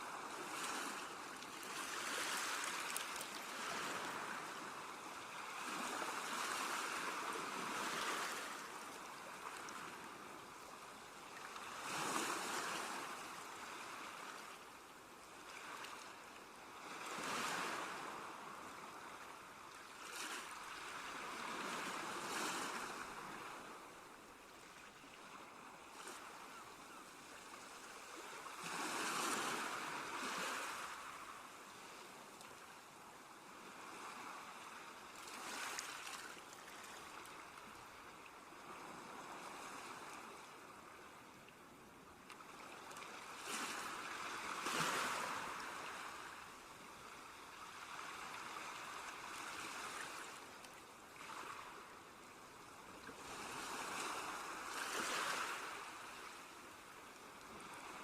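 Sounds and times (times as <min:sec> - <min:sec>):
ocean waves breaking on shore: 0:00.0 - 0:14.7, 0:15.4 - 0:41.1, 0:42.3 - 0:58.0.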